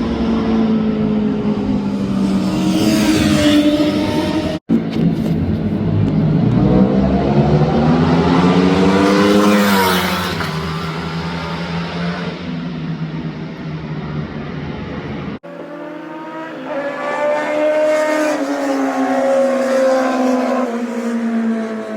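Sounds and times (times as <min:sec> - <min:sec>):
motorcycle engine revving: 0:00.0 - 0:13.4, 0:15.4 - 0:21.9.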